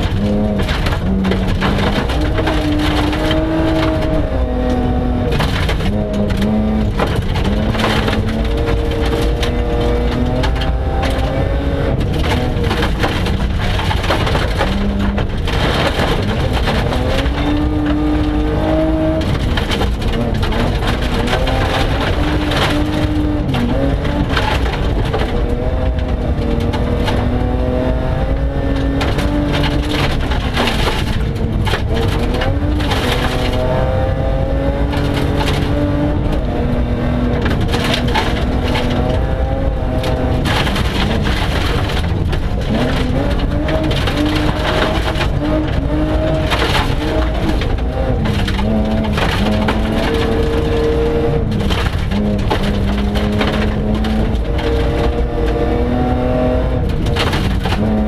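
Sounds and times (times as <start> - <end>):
gravel clattering against underbody: 0.0 - 58.0
rally car engine revving: 0.0 - 58.0.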